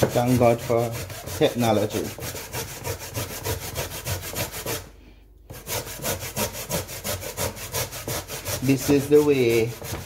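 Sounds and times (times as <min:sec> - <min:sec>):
grating on metal grater: 0:00.0 - 0:04.9, 0:05.5 - 0:10.0.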